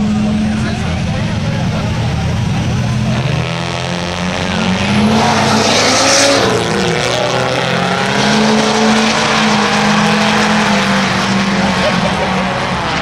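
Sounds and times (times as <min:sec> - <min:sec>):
engines revving hard: 0:00.0 - 0:13.0.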